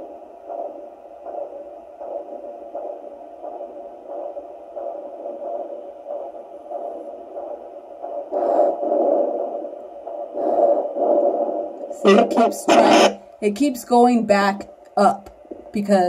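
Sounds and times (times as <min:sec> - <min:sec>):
heartbeat whooshing pulses: 0:00.0 - 0:13.2, 0:14.6 - 0:15.9.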